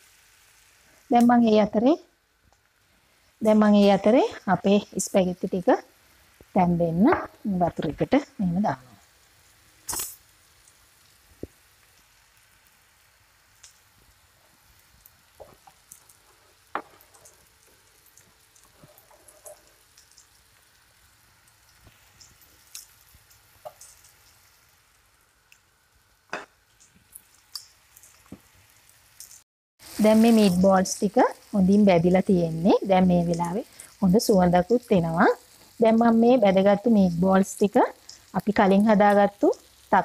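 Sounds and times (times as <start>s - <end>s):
meatballs sizzling in oil: 0.0s - 40.0s.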